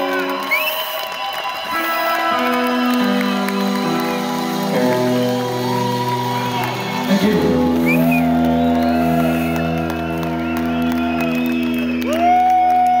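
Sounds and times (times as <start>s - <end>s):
crowd cheering: 0.0s - 13.0s.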